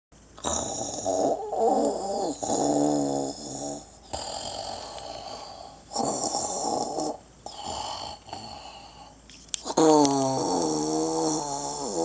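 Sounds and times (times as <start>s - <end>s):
rattling snore: 0.4s - 12.0s.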